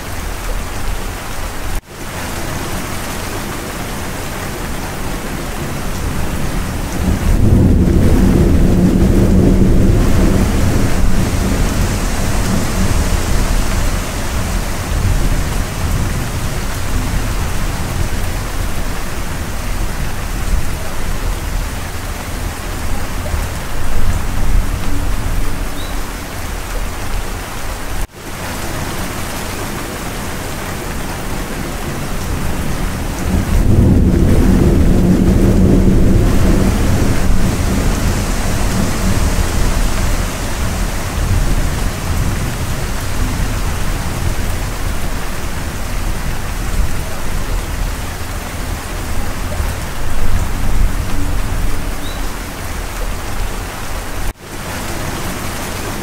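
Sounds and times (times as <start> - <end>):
heavy rain: 0.0 - 56.0
thunder rumbling: 0.0 - 56.0.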